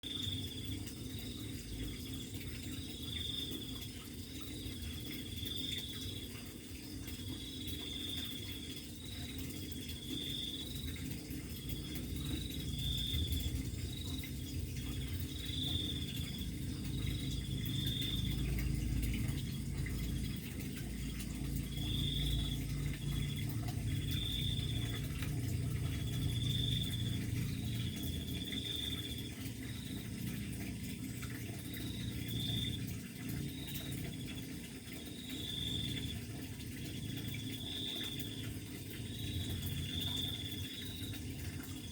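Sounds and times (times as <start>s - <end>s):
crickets chirping: 0.0s - 41.9s
running water trickling: 0.0s - 41.9s.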